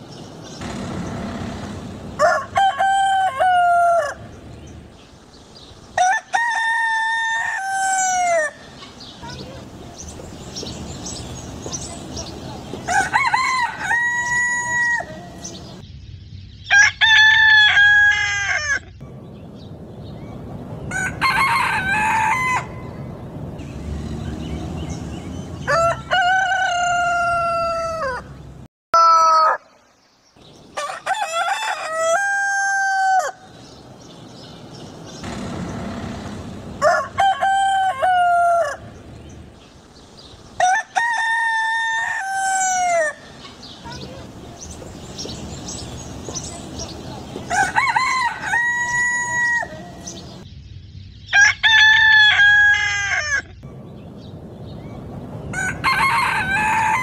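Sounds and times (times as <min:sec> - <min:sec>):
roosters crowing: 0:00.1 - 0:15.8, 0:16.7 - 0:19.0, 0:20.8 - 0:29.8, 0:30.5 - 0:50.4, 0:51.3 - 0:54.8, 0:55.4 - 0:57.0.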